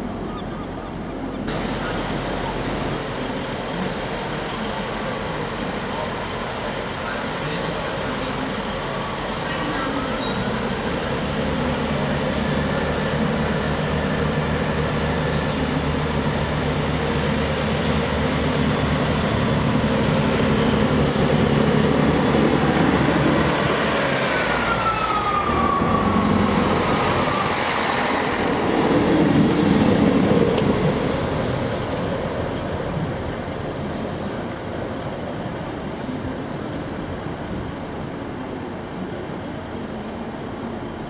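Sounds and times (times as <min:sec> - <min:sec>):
train diesel engines running: 0:00.0 - 0:41.0
train whine: 0:00.0 - 0:41.0.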